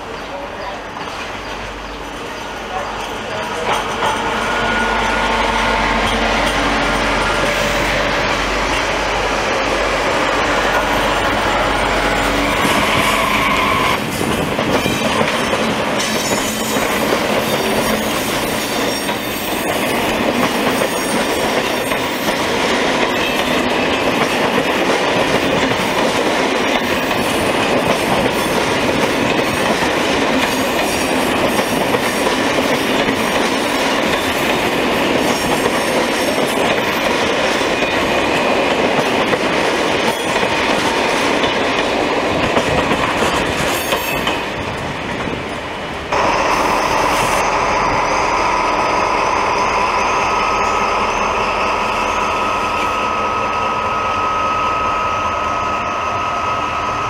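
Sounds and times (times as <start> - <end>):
train wheels clattering on rails: 0.6 - 48.5.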